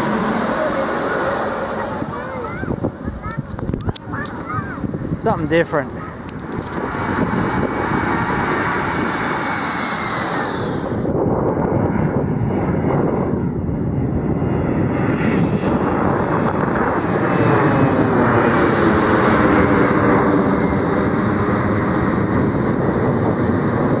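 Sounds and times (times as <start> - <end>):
airliner engines passing overhead: 0.0 - 24.0.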